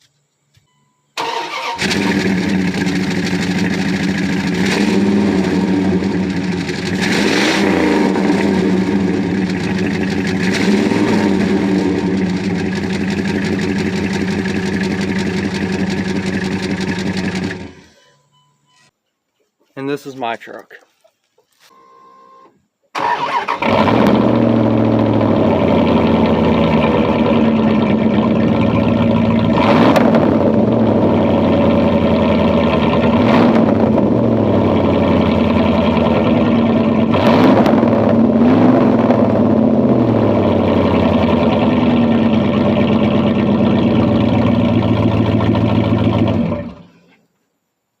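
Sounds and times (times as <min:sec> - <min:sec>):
loud truck engine idling and revving: 0:01.6 - 0:18.0, 0:23.3 - 0:47.0.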